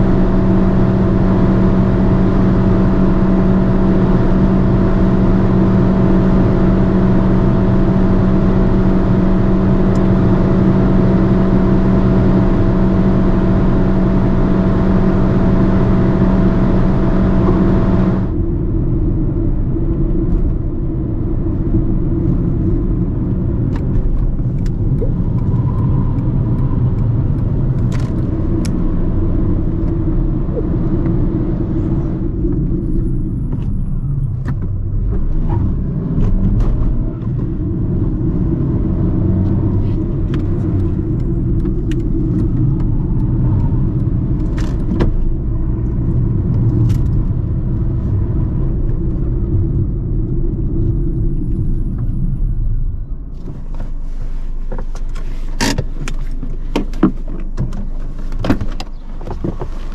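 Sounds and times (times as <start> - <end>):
car engine and road drone: 0.0 - 59.9.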